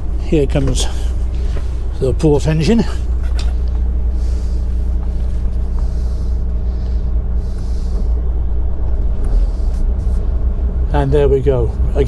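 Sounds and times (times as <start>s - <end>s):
boat engines idling: 0.0s - 12.0s.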